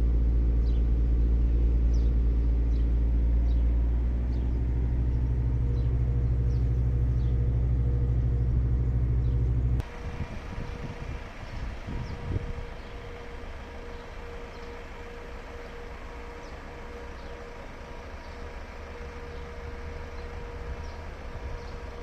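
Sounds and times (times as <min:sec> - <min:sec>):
faint uneven rumble: 0:00.0 - 0:22.0
van refrigeration hum: 0:00.0 - 0:22.0.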